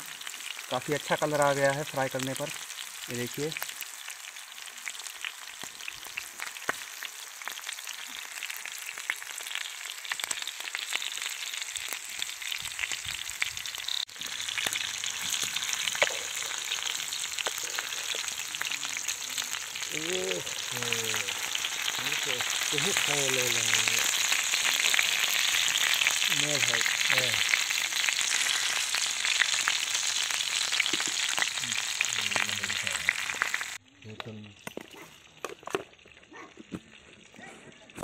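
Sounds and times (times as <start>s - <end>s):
oil sizzling and crackling: 0.0s - 38.0s.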